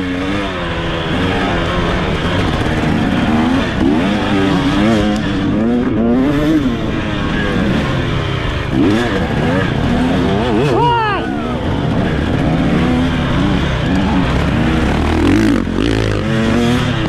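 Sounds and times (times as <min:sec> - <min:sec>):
off-road racing engine revving: 0:00.0 - 0:17.0.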